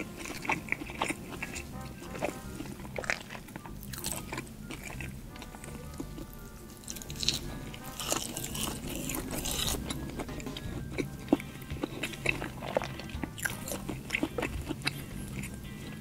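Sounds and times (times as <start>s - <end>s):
crunchy chewing: 0.0s - 16.0s
soft background music: 0.0s - 16.0s.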